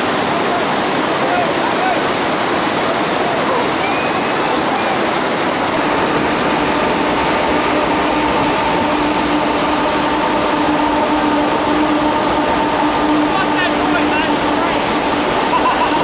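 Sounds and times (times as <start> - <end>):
whitewater rapids rushing: 0.0 - 16.0.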